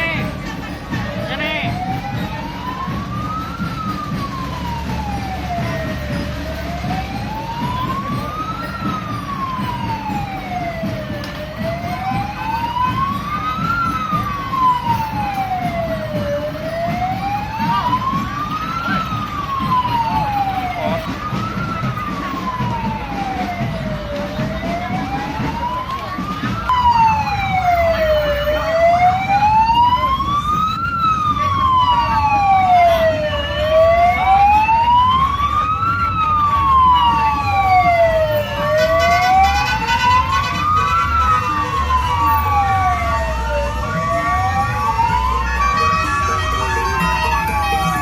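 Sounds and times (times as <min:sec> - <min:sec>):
wailing siren: 0:00.0 - 0:48.0.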